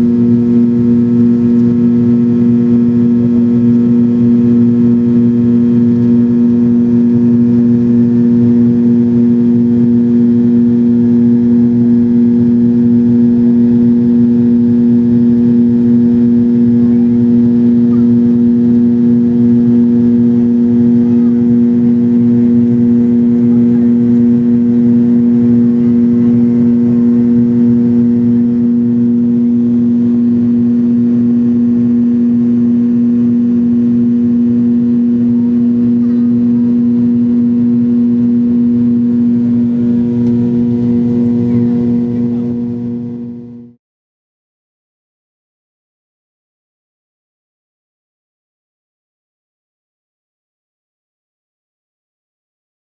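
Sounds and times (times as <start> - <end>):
jet engine drone in cabin: 0.0 - 43.8.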